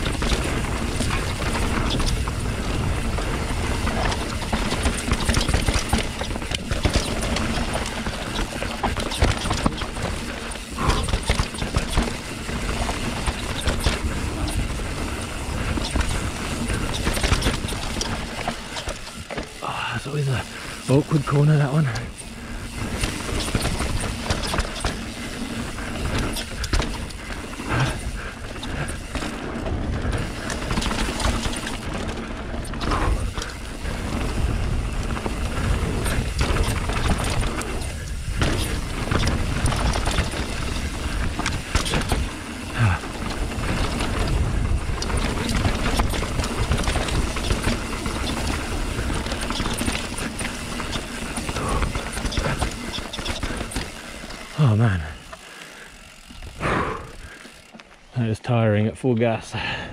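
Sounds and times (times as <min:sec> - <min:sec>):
bike frame and chain rattling: 0:00.0 - 0:58.7
bike tyres crunching over stones: 0:00.0 - 0:59.9.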